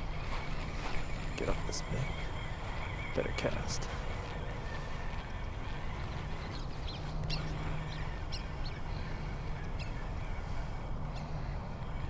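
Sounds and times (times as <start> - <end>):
birds chirping: 0.0 - 12.0
steady low rumble: 0.0 - 12.0.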